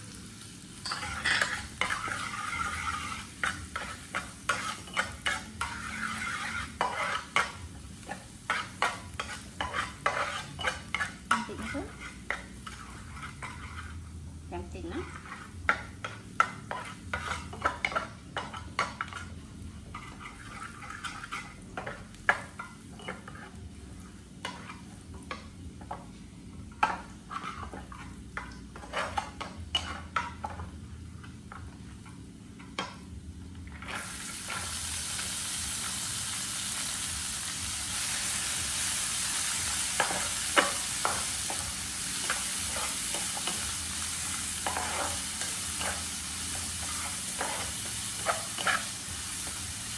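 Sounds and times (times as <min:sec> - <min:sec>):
vegetables sizzling: 0:00.0 - 0:25.5, 0:33.7 - 0:49.9
spatula scraping frying pan: 0:00.8 - 0:14.2, 0:14.8 - 0:25.4, 0:26.8 - 0:30.7, 0:37.7 - 0:49.9.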